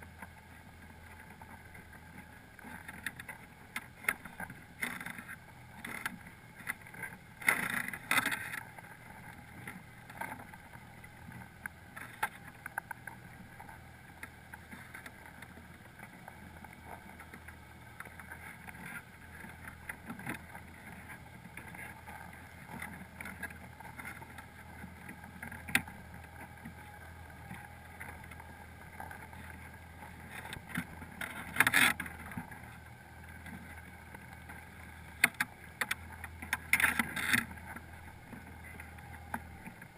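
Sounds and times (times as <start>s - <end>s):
low underwater hum: 0.0s - 39.9s
crabs clicking and knocking: 2.2s - 32.7s, 33.4s - 39.9s.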